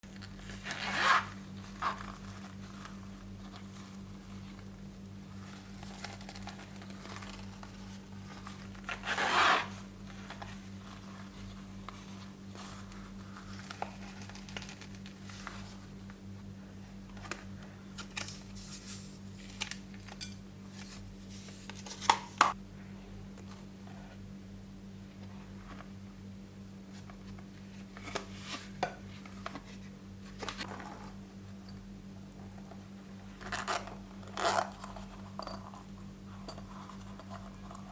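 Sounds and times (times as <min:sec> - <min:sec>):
low electrical hum: 0:00.0 - 0:37.9.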